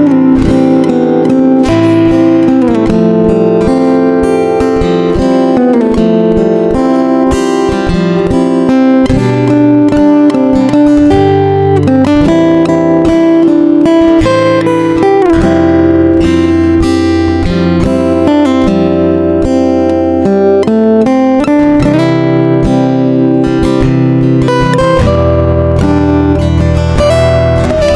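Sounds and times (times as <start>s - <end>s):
acoustic guitar music: 0.0s - 27.9s.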